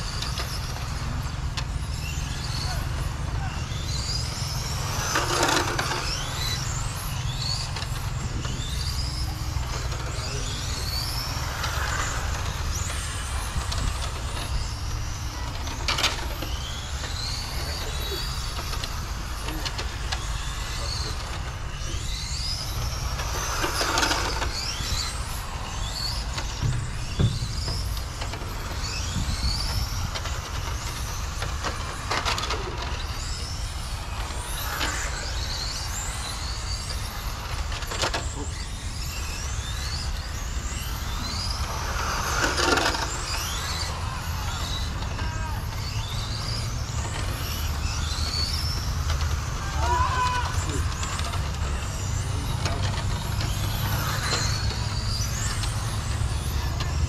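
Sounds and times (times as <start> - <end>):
rc car motor whine: 0.0 - 57.0.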